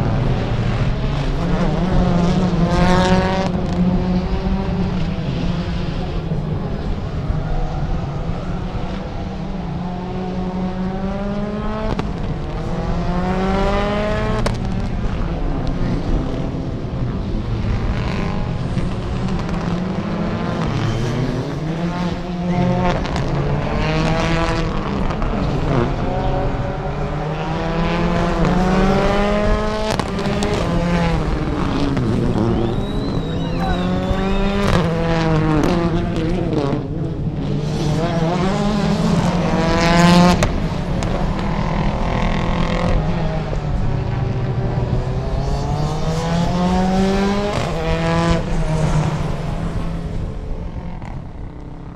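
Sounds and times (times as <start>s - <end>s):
car engines revving through gears: 0.0s - 51.9s.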